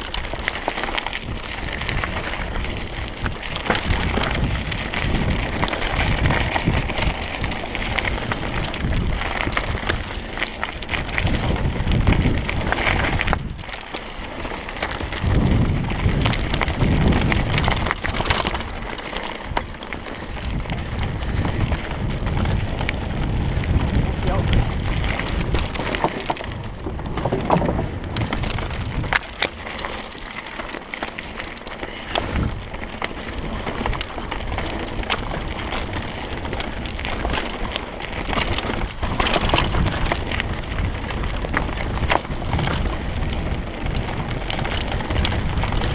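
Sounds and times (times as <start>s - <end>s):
bike rattling and clicking: 0.0s - 45.9s
bike tyres rolling over stones: 0.0s - 45.9s
wind buffeting microphone: 0.0s - 45.9s.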